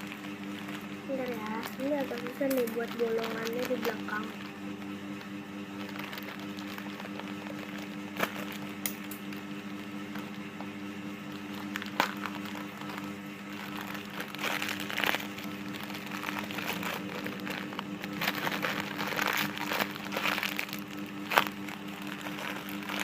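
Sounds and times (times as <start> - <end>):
crinkling and handling noises: 0.0 - 23.0
steady low hum: 0.0 - 23.0.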